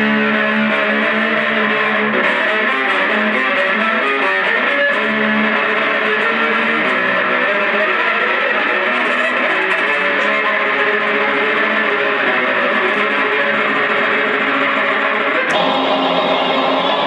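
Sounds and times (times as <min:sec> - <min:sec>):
distorted amplified string solo: 0:00.0 - 0:17.0.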